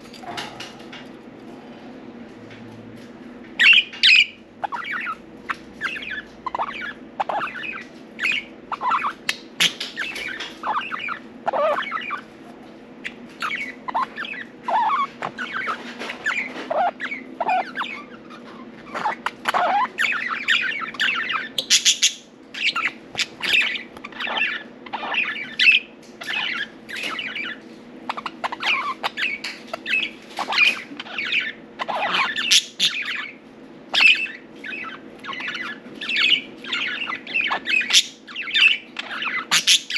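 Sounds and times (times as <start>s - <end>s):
budgerigars chirping and squawking: 3.6s - 39.9s.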